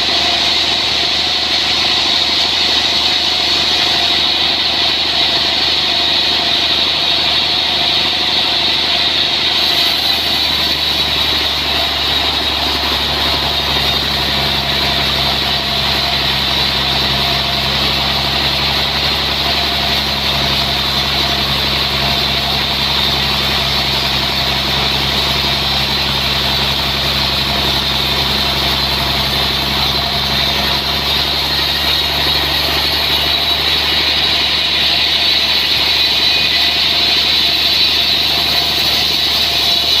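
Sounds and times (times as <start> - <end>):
sawmill machinery droning: 0.0 - 40.0.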